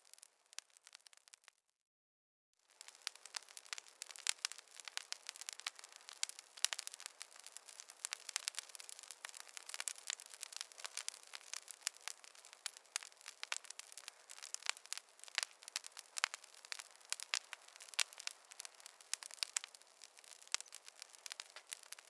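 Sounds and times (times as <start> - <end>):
campfire crackling: 0.0 - 1.6, 2.6 - 22.0.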